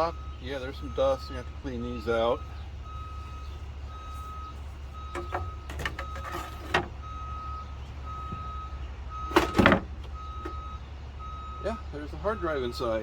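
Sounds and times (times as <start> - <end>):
reversing alarm beeping: 0.0 - 13.0.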